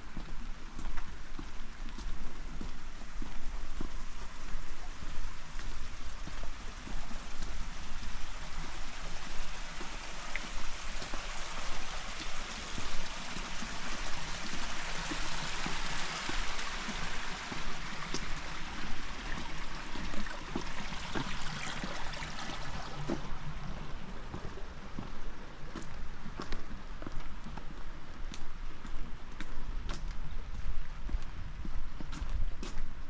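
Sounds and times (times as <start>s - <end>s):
rain and running water: 0.0s - 33.0s
small drips and taps: 0.2s - 32.8s.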